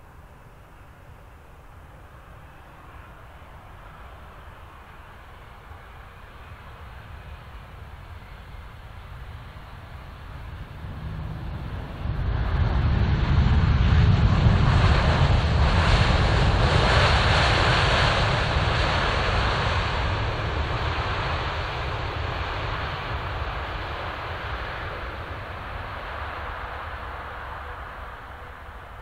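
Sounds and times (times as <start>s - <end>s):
jet engines roaring: 2.4s - 29.0s.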